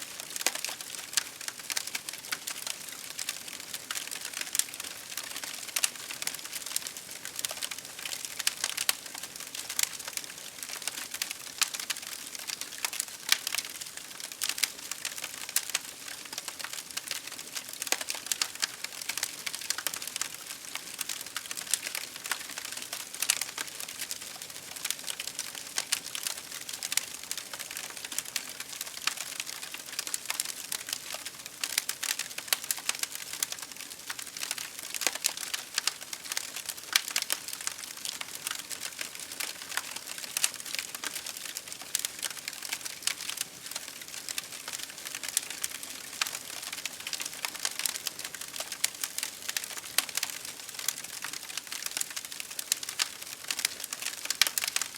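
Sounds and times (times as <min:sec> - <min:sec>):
campfire crackling and popping: 0:00.1 - 0:54.9.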